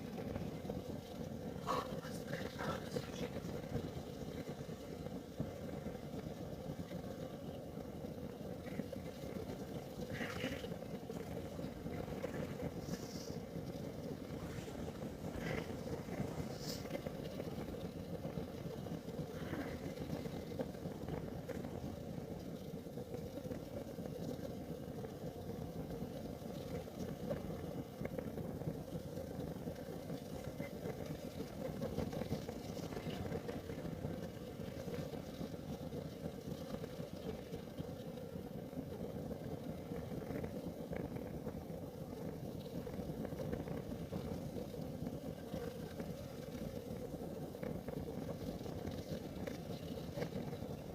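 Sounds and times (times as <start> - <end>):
faint clicks and crackles: 0.0 - 50.9
heater flame burning: 0.0 - 50.9.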